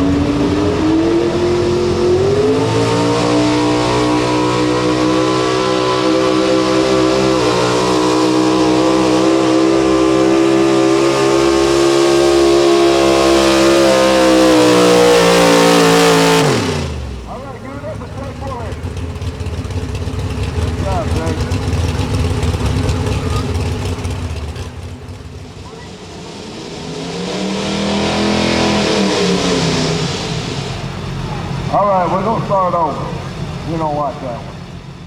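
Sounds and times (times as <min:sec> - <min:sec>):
truck engine revving hard: 0:00.0 - 0:35.0.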